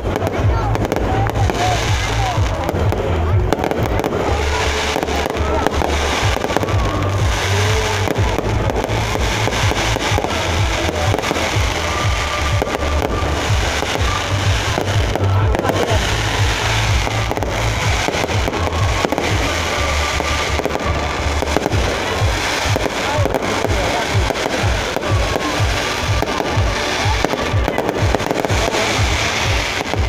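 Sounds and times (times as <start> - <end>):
fireworks bursting with booms: 0.0 - 30.0
fireworks crackle: 0.0 - 30.0.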